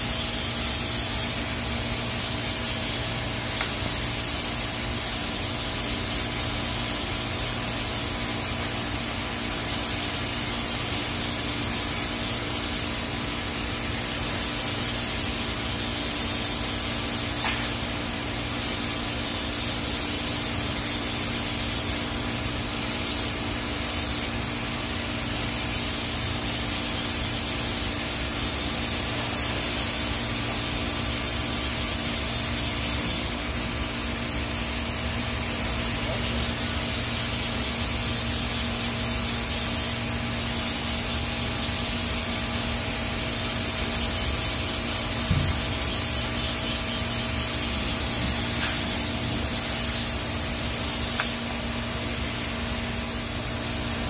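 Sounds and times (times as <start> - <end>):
low electrical hum: 0.0 - 54.0
welding arc hiss: 0.0 - 54.0.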